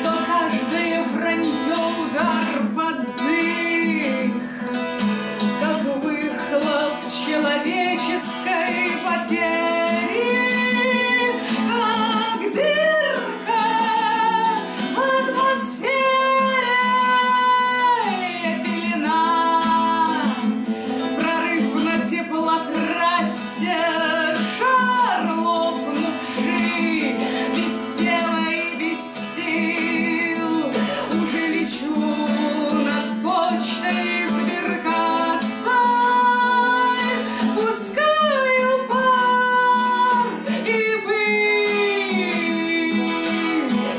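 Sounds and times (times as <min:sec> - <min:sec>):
acoustic guitar: 0:00.0 - 0:43.9
woman singing: 0:00.0 - 0:43.9.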